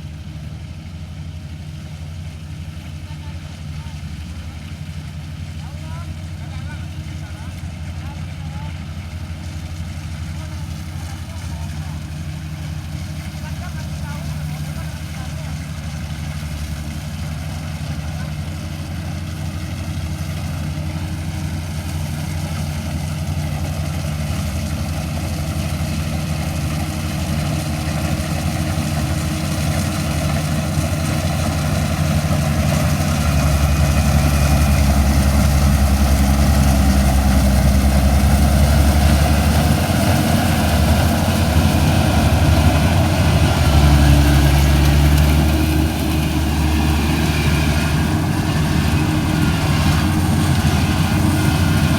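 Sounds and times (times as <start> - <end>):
harvester engine humming: 0.0 - 51.9.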